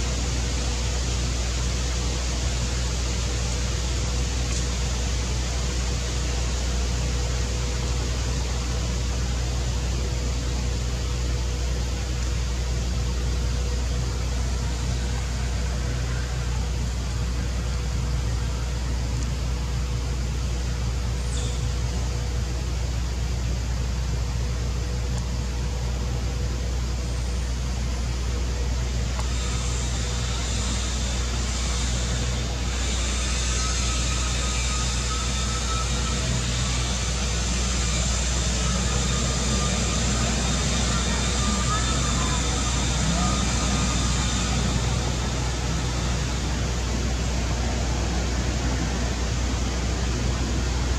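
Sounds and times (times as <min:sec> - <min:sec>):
faint constant hum: 0:00.0 - 0:50.9
low rumble with hiss: 0:00.0 - 0:50.9.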